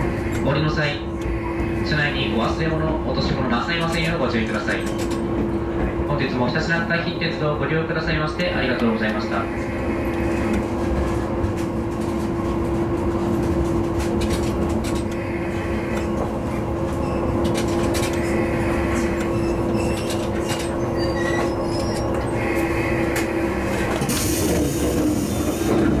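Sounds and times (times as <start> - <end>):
railcar engine hum: 0.0 - 26.0.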